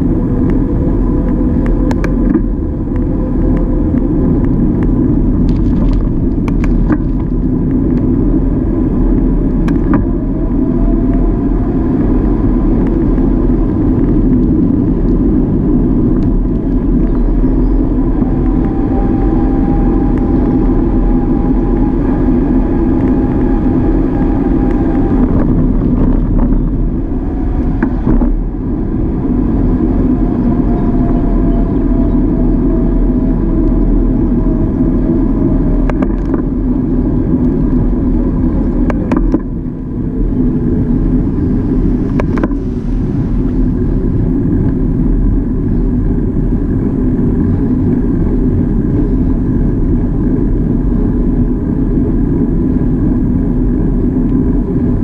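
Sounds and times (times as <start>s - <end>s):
bicycle tyres on paved road: 0.0s - 55.0s
wind rushing over microphone: 0.0s - 55.0s.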